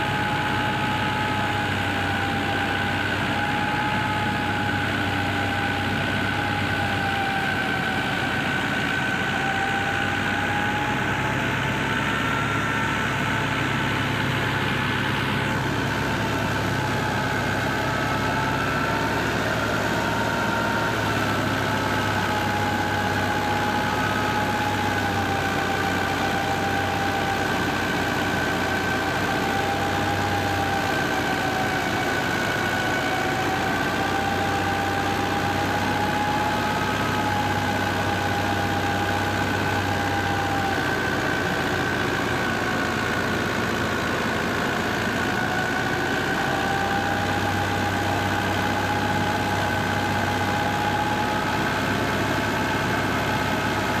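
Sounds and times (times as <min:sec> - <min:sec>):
high whine: 0:00.0 - 0:54.0
thresher machine hum: 0:00.0 - 0:54.0.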